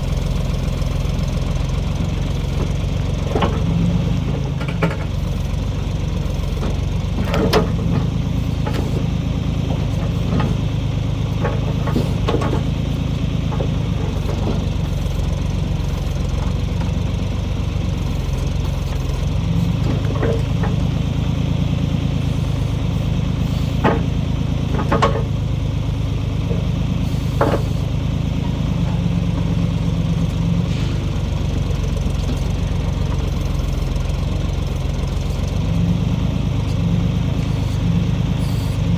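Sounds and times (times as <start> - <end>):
diesel backhoe engine running: 0.0 - 38.9.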